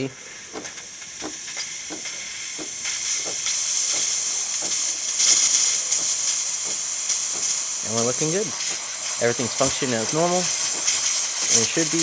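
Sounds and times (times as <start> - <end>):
espresso machine steam wand hissing: 0.0 - 12.0
faint irregular pops: 0.4 - 12.0.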